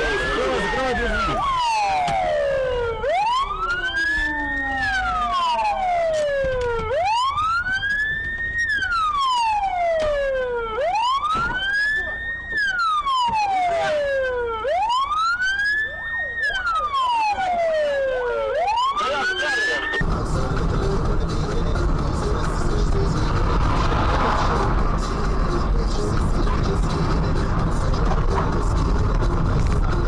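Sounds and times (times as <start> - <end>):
police siren wailing: 0.0 - 30.0.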